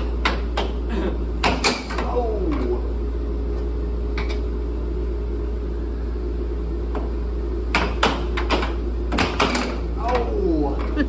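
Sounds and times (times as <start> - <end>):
blower fan humming: 0.0 - 11.0.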